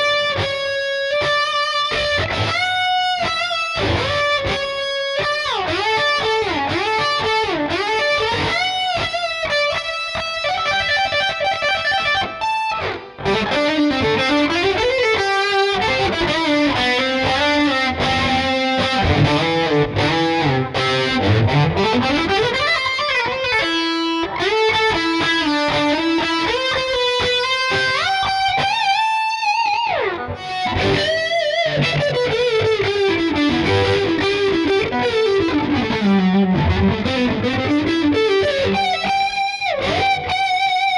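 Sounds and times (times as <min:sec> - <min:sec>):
distorted electric guitar solo: 0:00.0 - 0:40.9.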